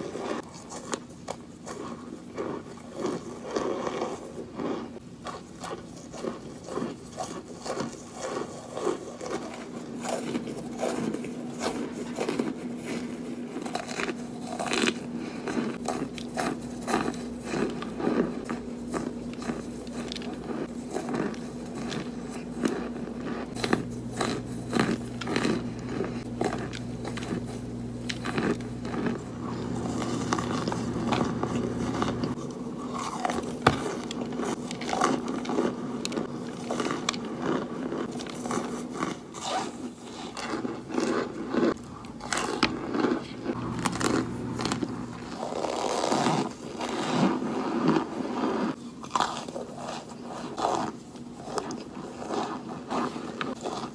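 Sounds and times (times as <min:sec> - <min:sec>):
crunching dry chunks: 0:00.0 - 0:53.9
faint steady hum: 0:00.0 - 0:53.9.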